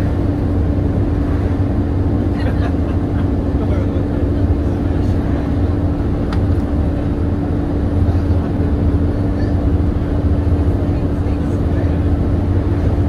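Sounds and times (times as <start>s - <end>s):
bus diesel engine drone: 0.0s - 13.0s
cooling fan whine: 0.0s - 13.0s.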